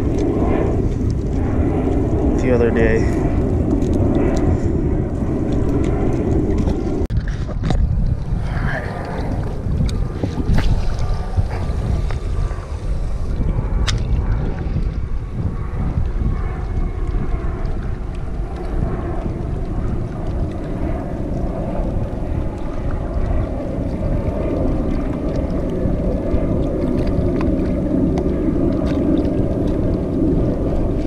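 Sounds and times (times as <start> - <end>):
low hum: 0.0 - 31.0
water lapping at shore: 0.0 - 31.0
wind buffeting microphone: 0.0 - 31.0.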